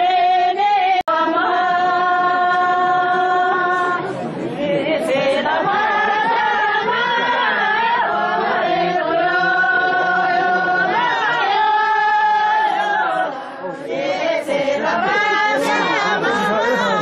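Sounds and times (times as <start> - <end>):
women singing in unison: 0.0 - 17.0.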